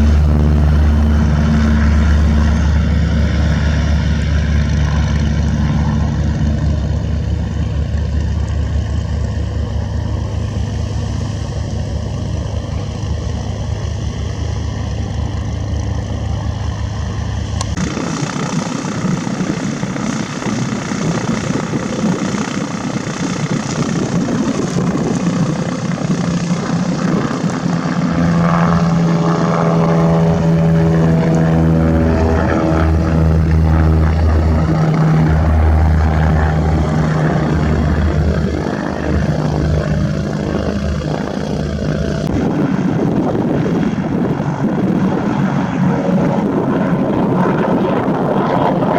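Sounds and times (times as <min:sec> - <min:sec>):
propeller airplane passing by: 0:00.0 - 0:48.9.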